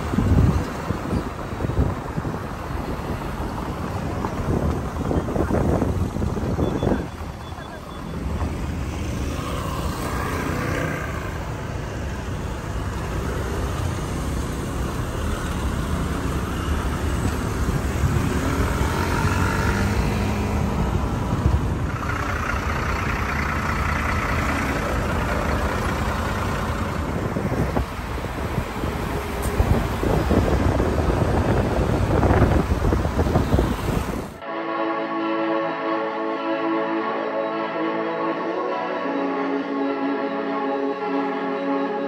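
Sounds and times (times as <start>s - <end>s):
low traffic rumble: 0.0s - 34.5s
vehicles driving past: 0.0s - 42.0s.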